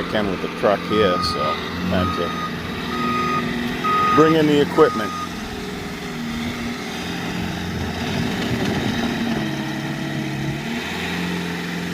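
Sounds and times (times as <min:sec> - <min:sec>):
heavy machine engine running: 0:00.0 - 0:11.9.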